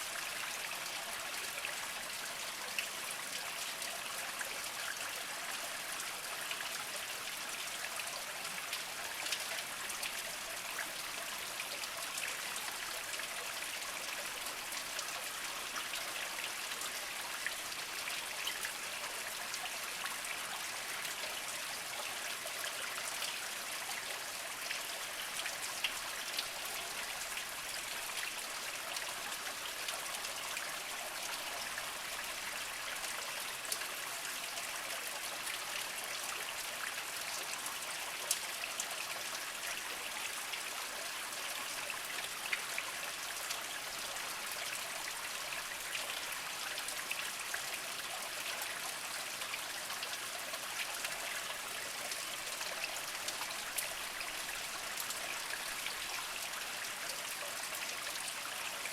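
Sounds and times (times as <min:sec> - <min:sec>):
water drips and splashes: 0:00.0 - 0:58.9.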